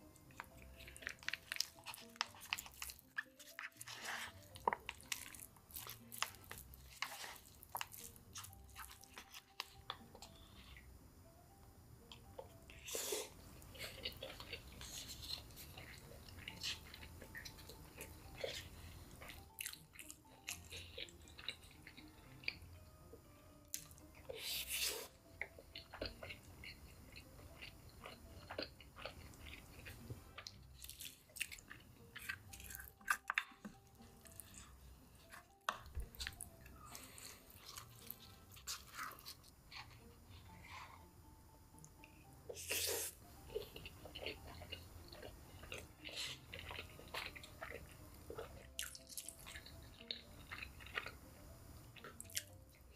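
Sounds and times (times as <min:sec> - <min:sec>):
wet chewing: 0:00.2 - 0:10.8, 0:12.2 - 0:22.6, 0:23.7 - 0:41.0, 0:41.8 - 0:51.2, 0:52.0 - 0:52.8.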